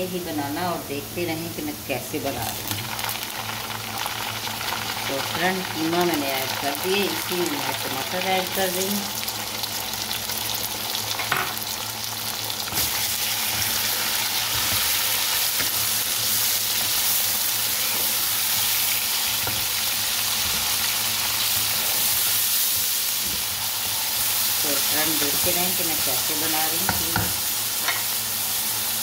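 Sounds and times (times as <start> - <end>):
food sizzling in hot oil: 1.2 - 29.0.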